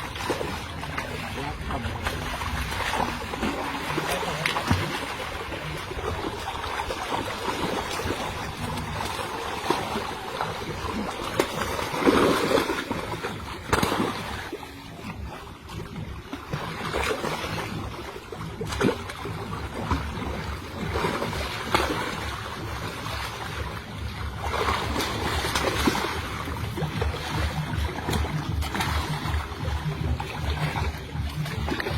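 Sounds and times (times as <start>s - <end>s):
boat engine rumbling: 0.0s - 31.9s
water splashing around hull: 0.0s - 31.9s.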